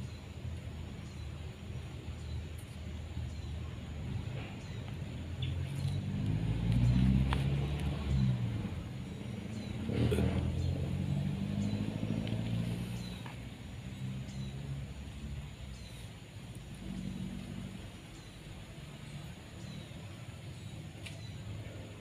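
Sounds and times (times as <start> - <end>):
engine running: 4.0 - 22.0.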